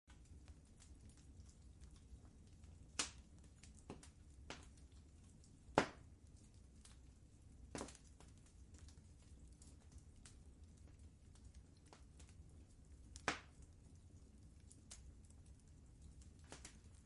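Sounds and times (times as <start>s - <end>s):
wood fire crackling: 0.1s - 17.0s.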